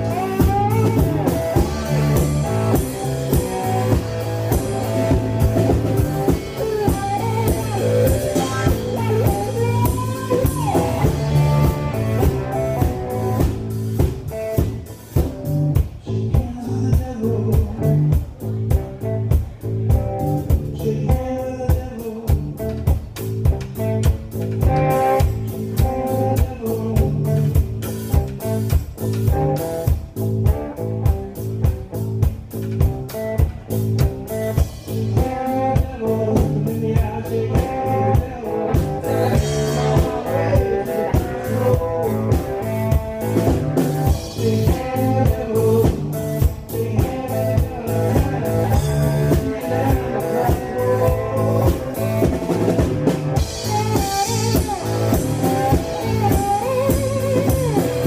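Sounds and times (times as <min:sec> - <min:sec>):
cigar box guitar: 0:00.0 - 0:58.0
drum kit beat: 0:00.0 - 0:58.0
electric guitar: 0:00.0 - 0:58.0.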